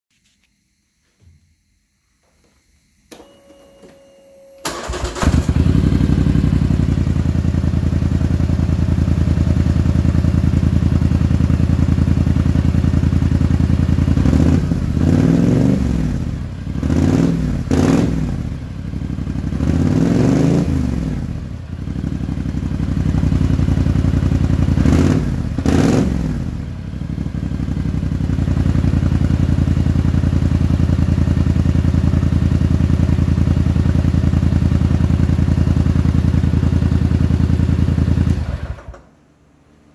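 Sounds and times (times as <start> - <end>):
atv engine idling and revving: 5.1 - 38.9.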